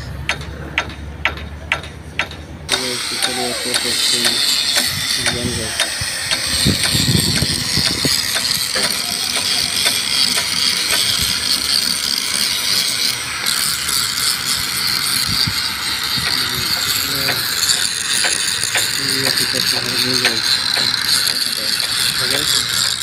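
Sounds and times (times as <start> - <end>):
electric grinder scraping steel: 2.7 - 23.0.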